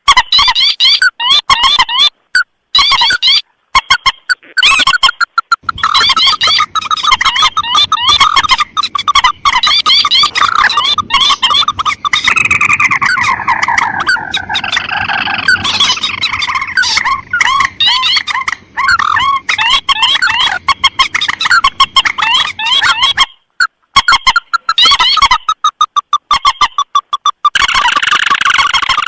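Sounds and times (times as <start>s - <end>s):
rail birds chattering calls: 0.0s - 29.0s.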